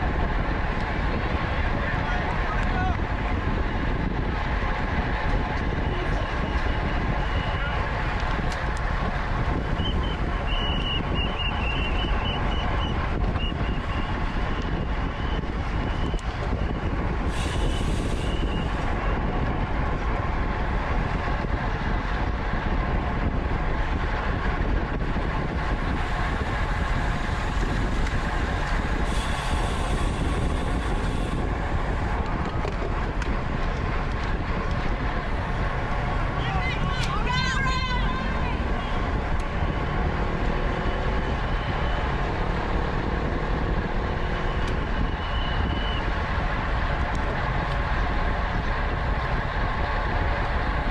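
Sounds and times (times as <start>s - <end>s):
wind and tyre noise: 0.0s - 50.9s.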